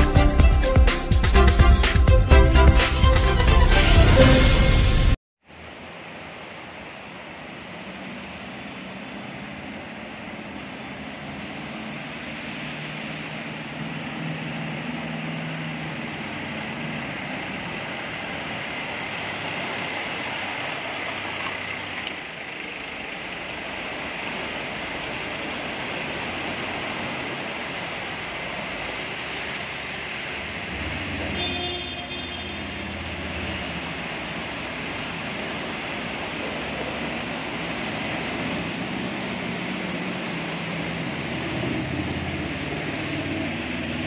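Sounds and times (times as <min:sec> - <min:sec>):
flowing water rushing: 0:01.8 - 0:44.0.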